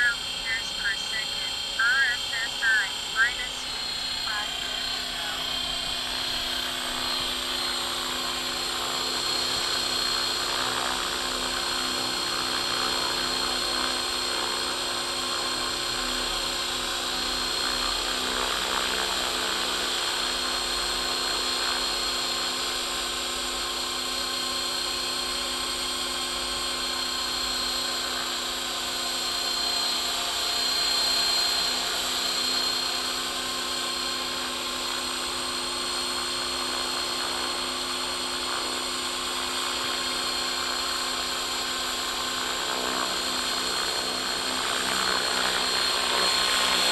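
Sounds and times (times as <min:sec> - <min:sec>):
rc helicopter motor whine: 0:02.6 - 0:46.9.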